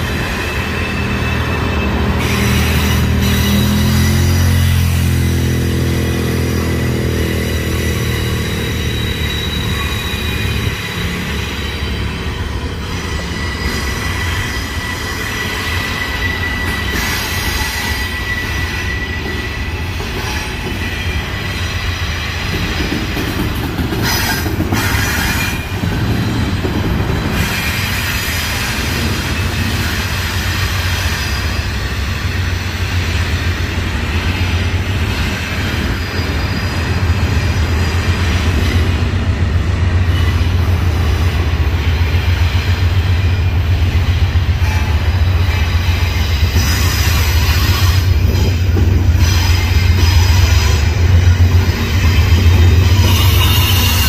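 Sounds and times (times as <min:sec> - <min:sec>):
freight cars rolling on rails: 0:00.0 - 0:54.0
wheel flanges squealing: 0:00.0 - 0:54.0.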